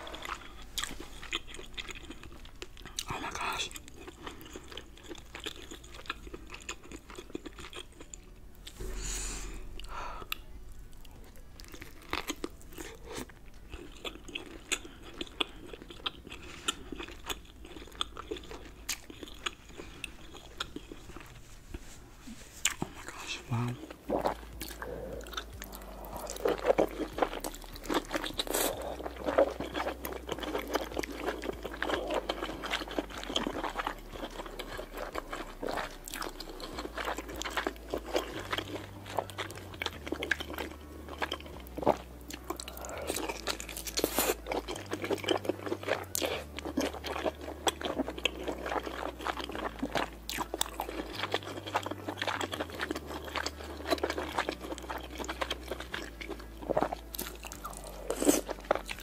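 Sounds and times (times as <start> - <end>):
person chewing and biting: 0.0 - 21.4, 22.6 - 59.0.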